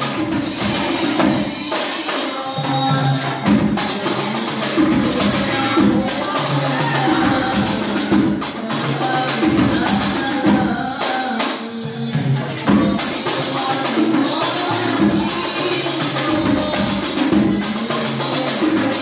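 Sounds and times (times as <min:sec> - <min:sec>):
frame drum with jingles: 0:00.0 - 0:11.5, 0:12.3 - 0:19.0
people chanting: 0:00.0 - 0:19.0.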